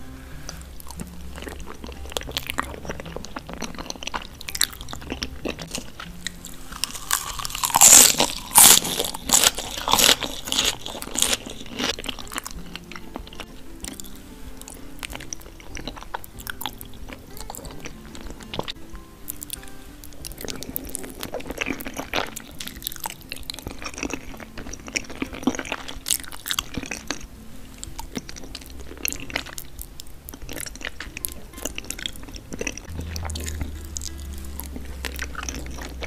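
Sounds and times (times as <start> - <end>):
crunchy lettuce chewing: 0.0 - 18.7, 19.3 - 36.0.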